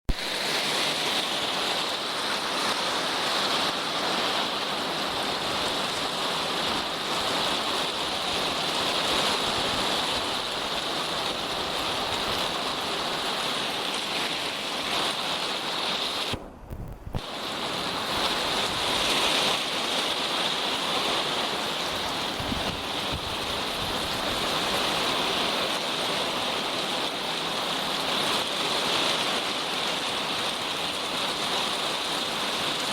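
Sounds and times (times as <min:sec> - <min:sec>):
steady rain falling: 0:00.1 - 0:32.9.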